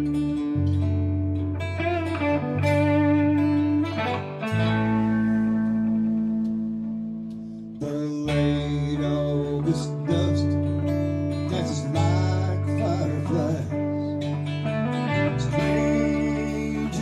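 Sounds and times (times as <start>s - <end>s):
bass line: 0.0s - 17.0s
country-rock band playing: 0.0s - 17.0s.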